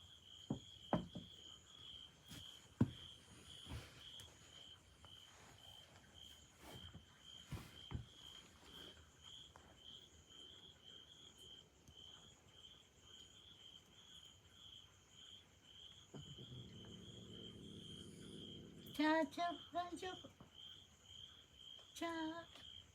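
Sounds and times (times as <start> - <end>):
faint insect chirping: 0.0 - 22.9.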